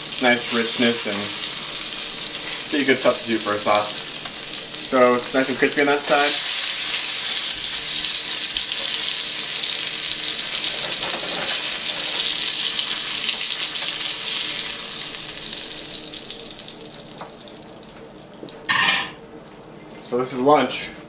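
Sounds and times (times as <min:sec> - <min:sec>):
fish sizzling in oil: 0:00.0 - 0:17.9.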